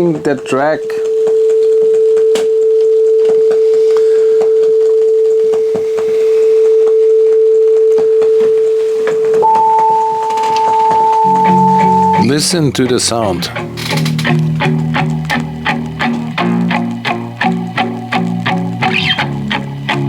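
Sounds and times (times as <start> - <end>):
crackling clicks: 0.0 - 20.0
higher test tone: 0.0 - 20.0
steady test tone: 0.0 - 20.0.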